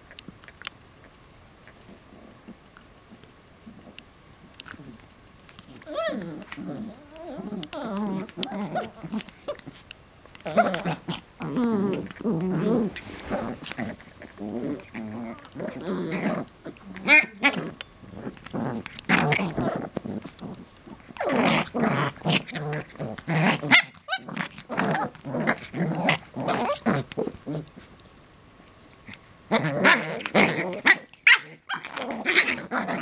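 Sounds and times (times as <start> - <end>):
dogs play-growling: 1.6 - 28.1, 28.7 - 33.0.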